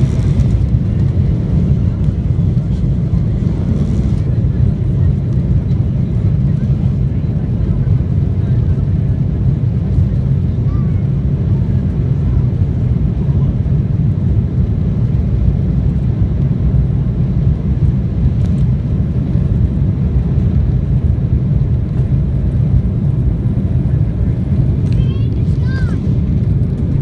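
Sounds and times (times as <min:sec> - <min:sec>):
jet engine rumble in cabin: 0:00.0 - 0:27.0.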